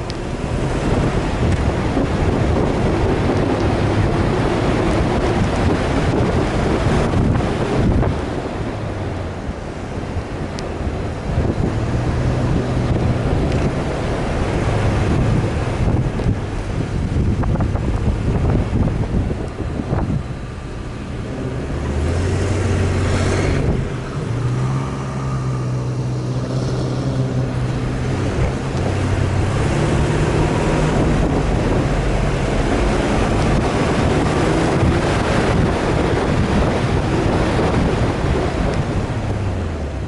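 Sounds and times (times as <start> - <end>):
vehicle engine running: 0.0 - 40.0
wind on microphone: 0.0 - 40.0.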